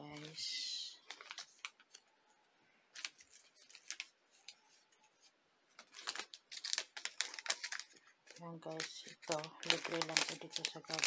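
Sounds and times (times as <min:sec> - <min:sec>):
paper and foil packets crinkling: 0:00.0 - 0:02.2, 0:02.9 - 0:11.0.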